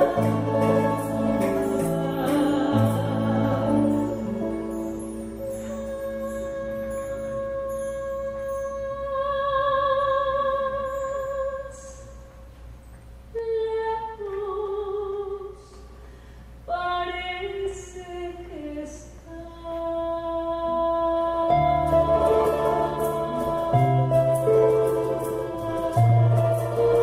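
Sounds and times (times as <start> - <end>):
woman singing into a microphone: 0.0 - 4.8, 5.4 - 12.2, 13.3 - 15.9, 16.7 - 27.0.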